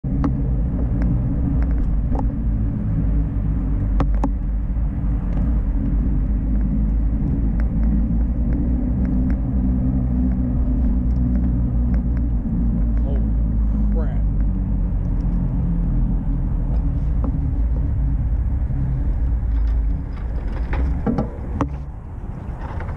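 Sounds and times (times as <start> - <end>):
vehicle rumble: 0.0 - 22.9.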